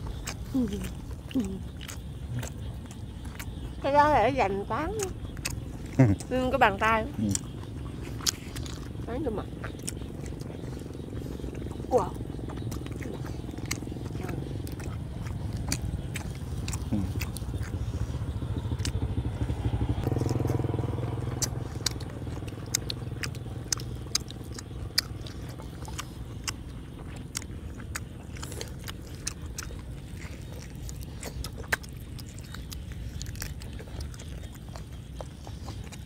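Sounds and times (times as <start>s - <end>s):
chewing and biting meat: 0.0s - 36.0s
low motor hum: 0.0s - 36.0s.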